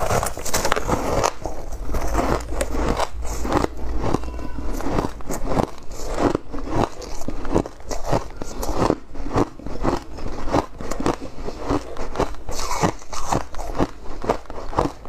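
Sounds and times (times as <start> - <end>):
crunching ice chewing: 0.0 - 15.0.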